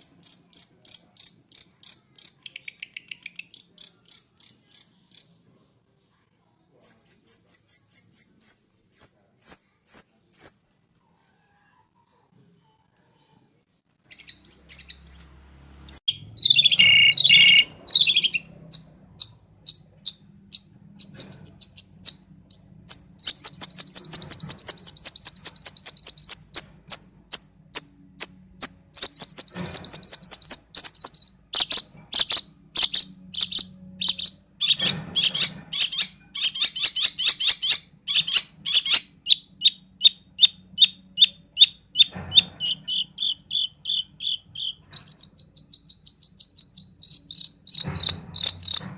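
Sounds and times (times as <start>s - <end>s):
bird singing chattering notes: 0.0s - 5.4s, 6.8s - 10.6s, 14.1s - 15.3s, 15.9s - 48.8s.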